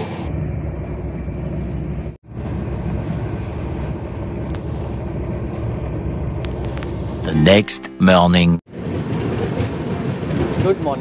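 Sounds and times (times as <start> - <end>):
train running rumble: 0.0 - 7.2, 8.8 - 11.0.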